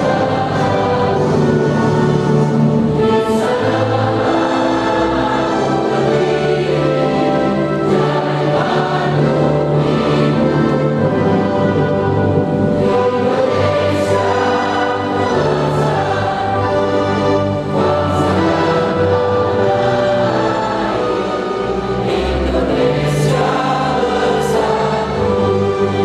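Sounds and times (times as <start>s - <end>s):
choir singing: 0.0s - 26.0s
instrumental accompaniment: 0.0s - 26.0s.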